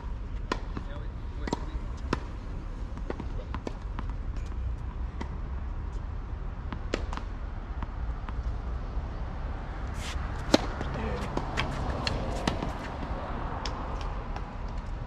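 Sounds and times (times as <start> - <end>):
tennis balls struck by rackets: 0.4 - 5.5, 6.6 - 8.6, 9.9 - 14.9.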